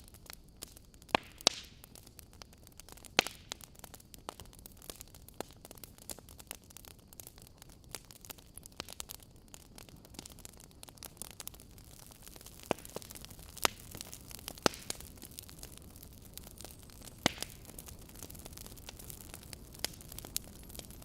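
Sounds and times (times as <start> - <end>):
fire popping: 0.0 - 21.0
wood fire crackling: 0.0 - 21.0.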